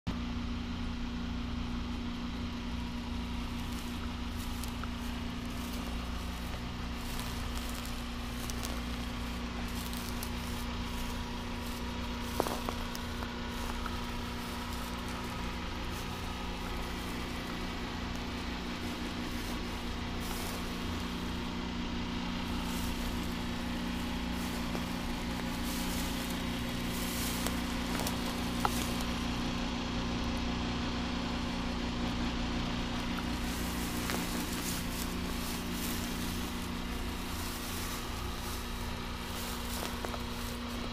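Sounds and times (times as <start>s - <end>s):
low mechanical hum: 0.1s - 40.9s
faint rustling: 2.5s - 29.5s, 32.7s - 40.9s.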